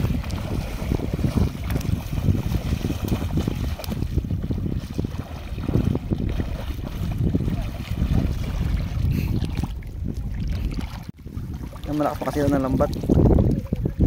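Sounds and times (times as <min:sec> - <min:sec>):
feet wading through shallow water: 0:00.0 - 0:14.0
wind buffeting microphone: 0:00.0 - 0:14.0.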